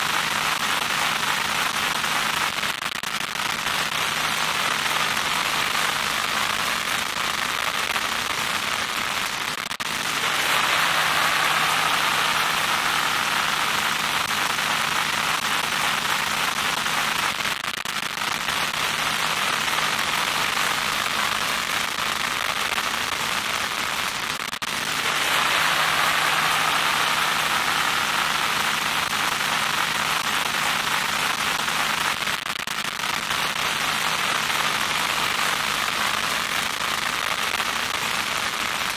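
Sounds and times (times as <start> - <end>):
crackling static hiss: 0.0 - 38.9.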